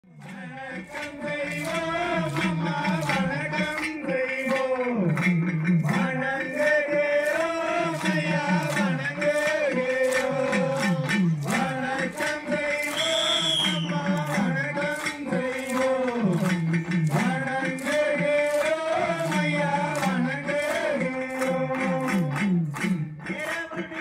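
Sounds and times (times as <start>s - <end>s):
man singing chanted melody: 0.1s - 24.0s
steady percussive beat: 0.1s - 24.0s.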